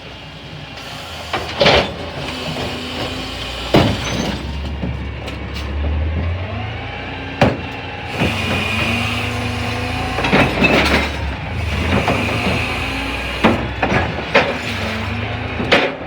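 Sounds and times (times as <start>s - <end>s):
garbage truck engine running: 0.0s - 16.0s
metal clanks and knocks: 0.8s - 16.0s.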